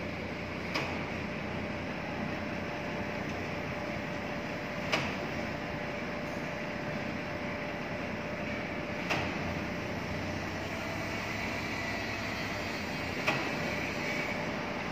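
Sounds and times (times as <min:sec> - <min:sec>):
crane engine running: 0:00.0 - 0:14.9.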